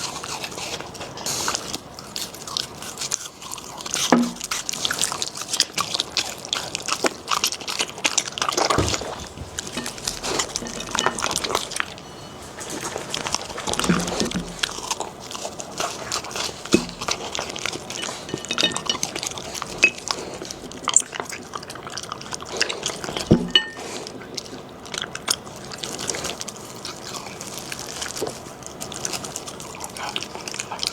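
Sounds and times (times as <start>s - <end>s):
dog crunching and chewing: 0.0s - 30.9s.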